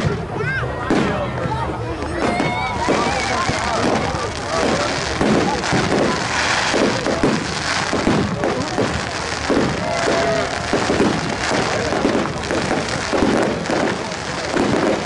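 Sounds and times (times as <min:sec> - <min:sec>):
crowd talking: 0:00.0 - 0:15.0
fireworks bangs and crackling: 0:00.0 - 0:15.0.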